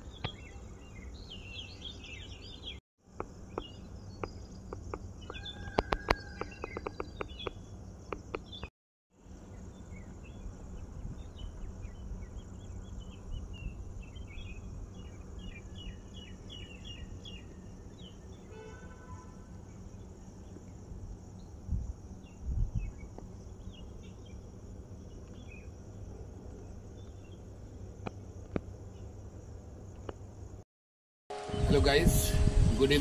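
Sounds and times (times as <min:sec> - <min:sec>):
birds chirping: 0:00.0 - 0:08.7, 0:09.4 - 0:20.8, 0:21.4 - 0:29.2.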